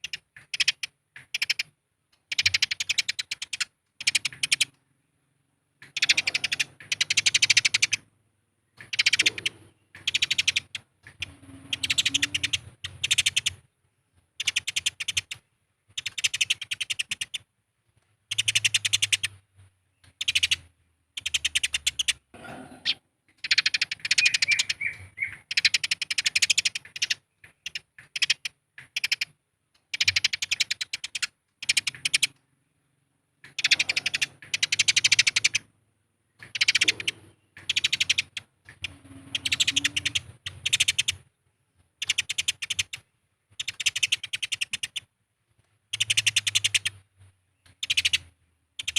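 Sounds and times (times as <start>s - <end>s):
sparrows chattering harshly: 0.0s - 4.7s, 5.8s - 8.1s, 8.7s - 13.7s, 14.4s - 17.4s, 18.3s - 32.4s, 33.4s - 35.7s, 36.3s - 41.3s, 42.0s - 45.1s, 47.6s - 48.9s.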